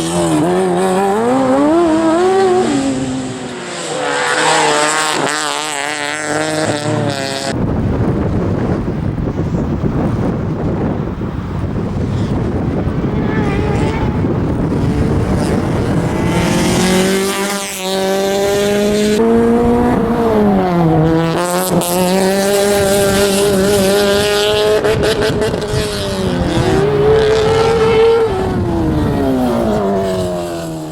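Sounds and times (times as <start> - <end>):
car engine revving hard: 0.0 - 7.6, 13.0 - 30.9.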